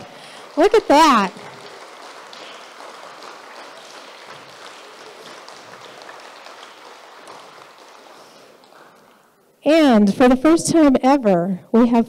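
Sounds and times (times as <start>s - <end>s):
crowd rustling and shuffling: 0.0s - 10.2s.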